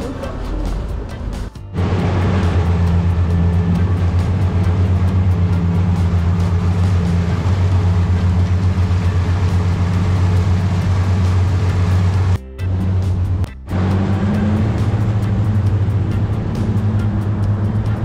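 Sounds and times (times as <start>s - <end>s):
pulsing higher hum: 0.0s - 18.0s
vehicle engine droning: 0.0s - 18.0s.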